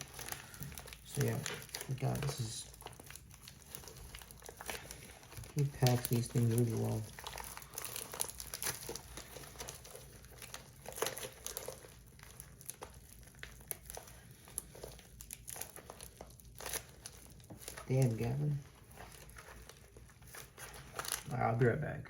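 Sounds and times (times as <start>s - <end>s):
packaging crinkling and rustling: 0.0s - 21.7s.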